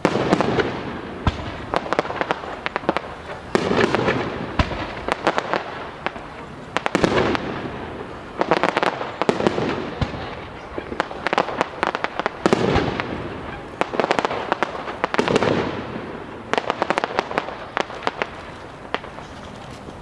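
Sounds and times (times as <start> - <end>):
fireworks bangs: 0.0 - 20.0
sharp firework crackles: 0.0 - 20.0.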